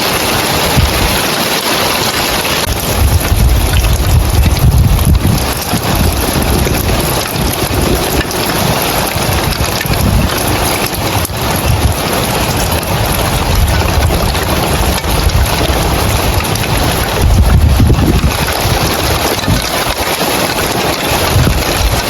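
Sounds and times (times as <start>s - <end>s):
rain pattering on roof tiles: 0.0s - 22.0s
wind rumbling on microphone: 0.0s - 22.0s.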